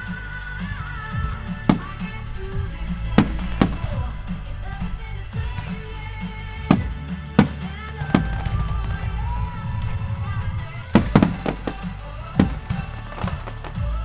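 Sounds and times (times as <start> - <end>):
fireworks bangs: 0.0 - 14.0
loud music with heavy bass: 0.0 - 14.0.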